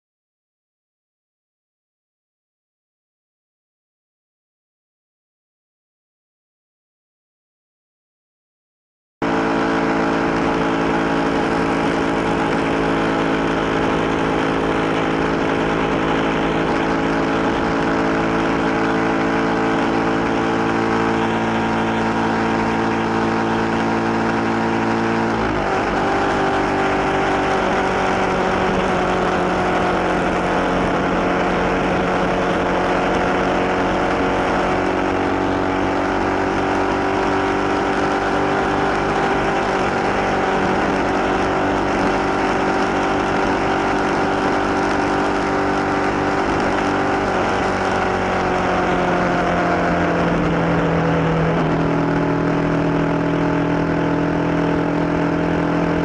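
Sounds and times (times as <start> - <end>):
motorcycle engine running: 9.2 - 56.0.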